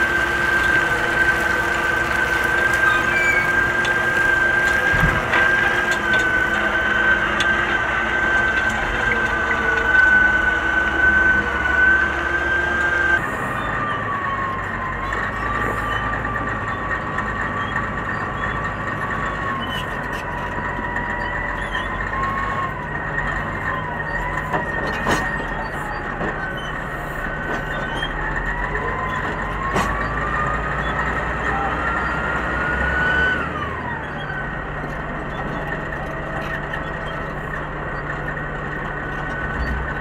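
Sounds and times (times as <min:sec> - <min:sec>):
diesel engine drone with whine: 0:00.0 - 0:40.0.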